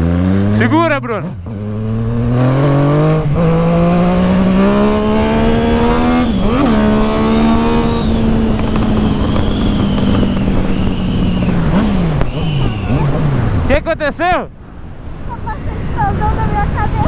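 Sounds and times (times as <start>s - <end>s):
motorcycle engine accelerating: 0.0s - 13.9s.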